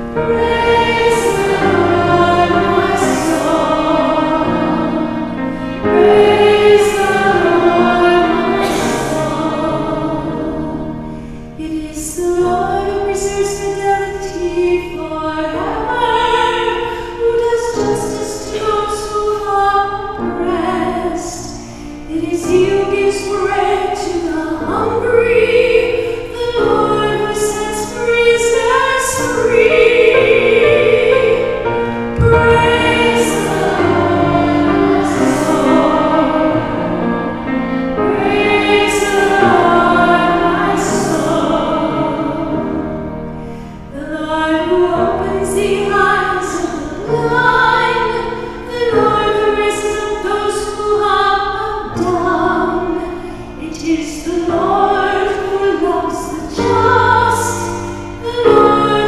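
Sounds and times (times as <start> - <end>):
voices singing slow sacred melody: 0.0 - 59.0.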